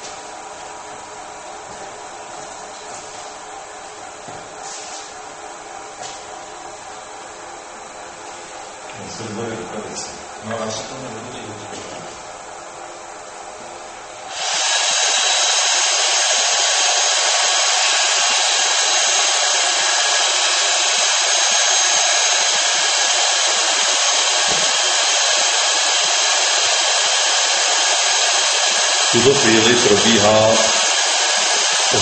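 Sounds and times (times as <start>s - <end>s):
hot-air blower blowing: 0.0s - 32.0s.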